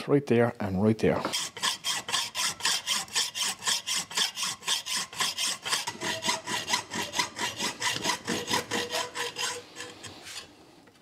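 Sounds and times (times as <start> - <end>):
hacksaw cutting metal: 1.3 - 10.5.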